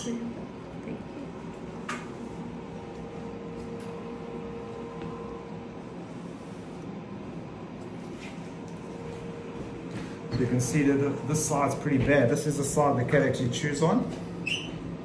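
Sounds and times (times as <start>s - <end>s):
dental machine humming: 0.0s - 15.0s.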